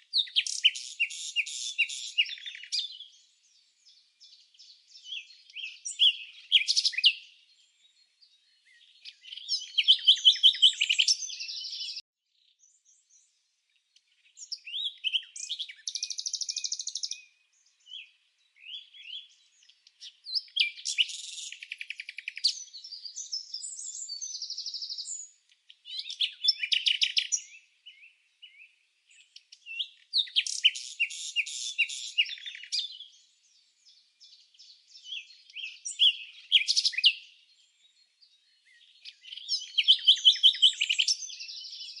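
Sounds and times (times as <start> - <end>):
birds chirping and singing: 0.0 - 42.0.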